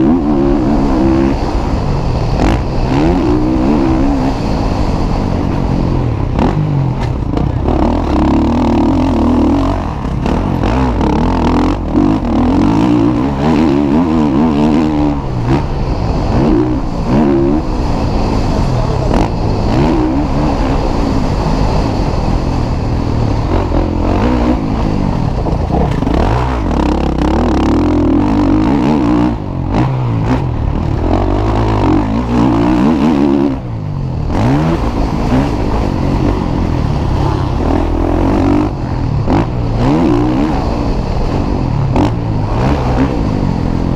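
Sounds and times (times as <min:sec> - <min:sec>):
motocross bikes revving: 0:00.0 - 0:43.9.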